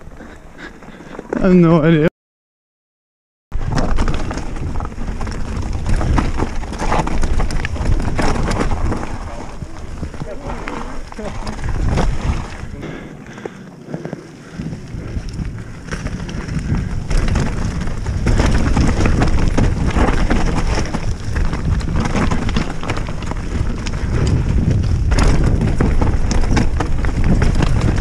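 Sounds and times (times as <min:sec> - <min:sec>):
bike tyres rumbling on dirt: 0:03.5 - 0:28.0
wind buffeting microphone: 0:03.6 - 0:13.6, 0:14.4 - 0:28.0
bike rattling and clattering: 0:03.6 - 0:28.0.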